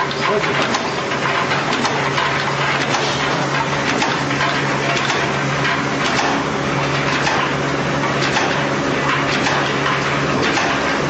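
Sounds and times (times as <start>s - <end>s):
assembly machine humming: 0.0s - 11.0s.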